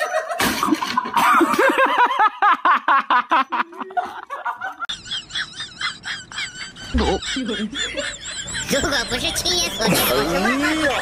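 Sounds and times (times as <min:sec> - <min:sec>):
loud laughter: 0:00.0 - 0:11.0.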